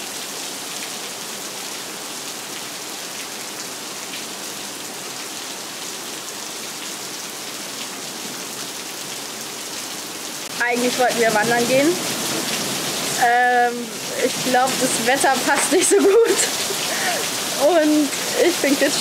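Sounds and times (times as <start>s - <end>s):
heavy rain on wet asphalt: 0.0s - 19.0s.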